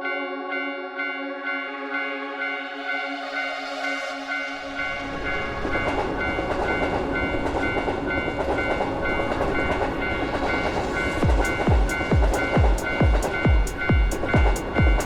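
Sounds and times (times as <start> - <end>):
passing train rushing: 0.0 - 15.0
railroad crossing bell ringing: 0.0 - 15.0.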